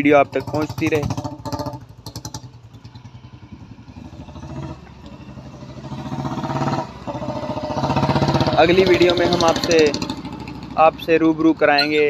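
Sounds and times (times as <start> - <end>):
engine running with putter: 0.0 - 12.0.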